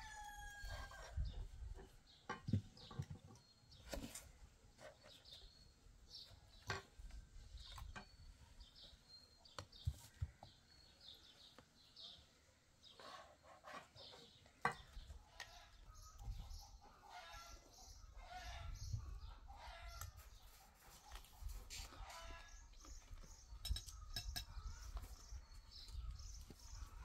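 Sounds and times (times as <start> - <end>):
small birds chirping: 1.0 - 27.0.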